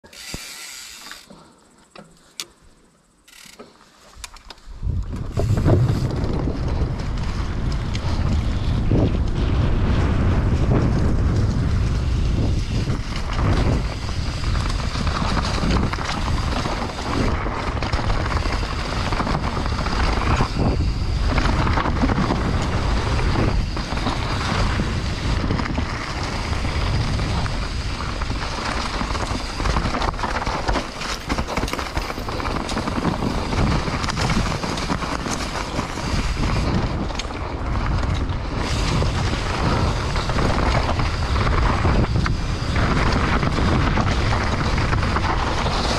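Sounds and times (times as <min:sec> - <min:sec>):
bike clicks: 0:00.0 - 0:45.9
bike knocking and rattling: 0:00.0 - 0:45.9
knobby tyres rumbling on dirt: 0:03.2 - 0:45.9
wind noise on microphone: 0:04.2 - 0:45.9.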